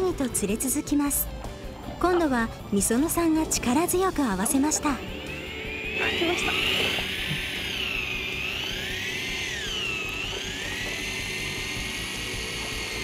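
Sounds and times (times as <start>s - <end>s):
electric fishing reel motor whining: 0.0s - 13.0s.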